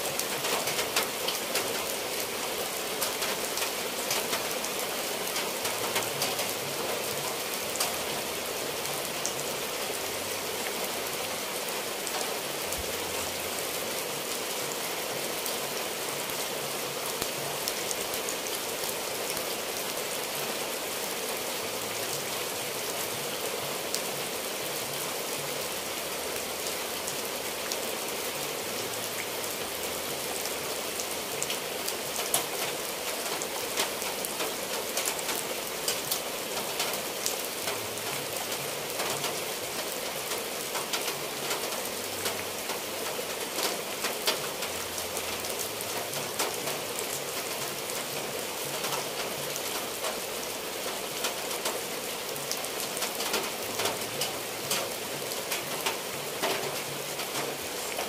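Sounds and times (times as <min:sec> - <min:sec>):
rain on tiled roofs: 0:00.0 - 0:58.0
water dripping off eaves: 0:00.0 - 0:58.0.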